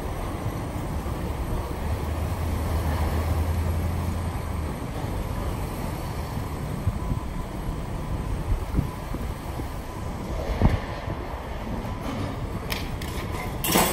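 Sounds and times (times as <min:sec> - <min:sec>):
city background noise: 0:00.0 - 0:13.9
diesel machinery rumble: 0:00.0 - 0:13.9.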